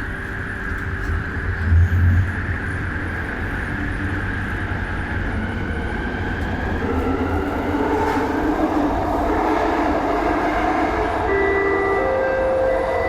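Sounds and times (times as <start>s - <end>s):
train rumble and track noise: 0.0s - 13.0s.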